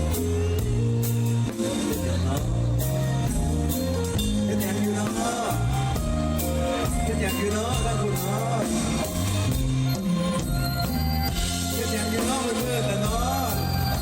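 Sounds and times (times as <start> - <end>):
bending melodic lead line: 0.0 - 14.0
live band playing: 0.0 - 14.0.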